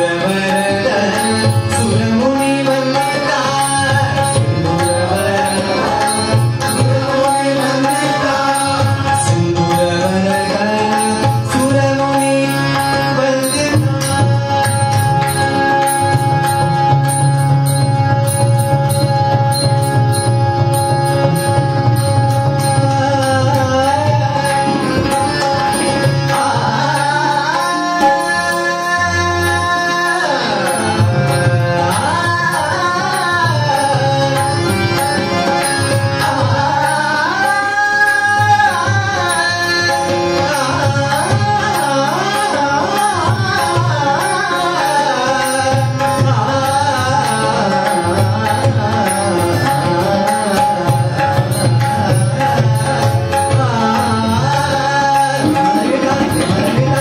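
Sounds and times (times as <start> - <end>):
harmonium playing: 0.0 - 57.0.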